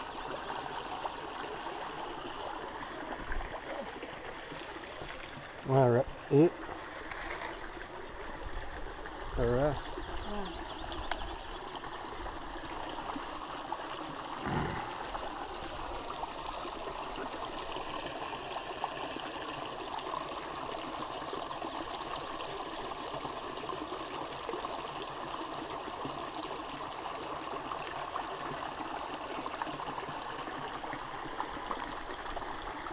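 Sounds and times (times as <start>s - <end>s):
creek water babbling over rocks: 0.0s - 32.9s.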